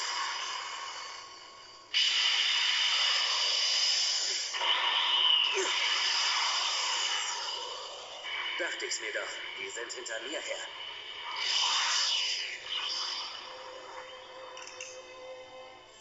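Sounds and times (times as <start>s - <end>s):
loud hissing whoosh: 0.0s - 14.0s
high whine: 0.0s - 16.0s.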